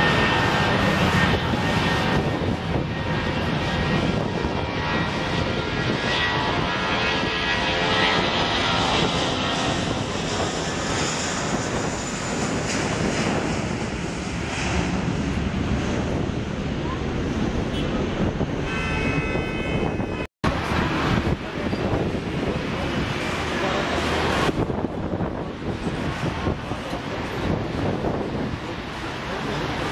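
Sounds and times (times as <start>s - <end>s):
jet engine rumble with whine: 0.0s - 29.9s.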